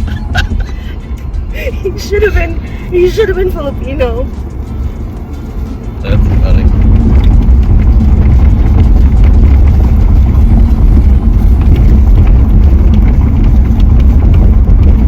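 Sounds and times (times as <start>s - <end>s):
car interior rumble: 0.0s - 15.0s
faint ticks and rattles: 2.2s - 15.0s.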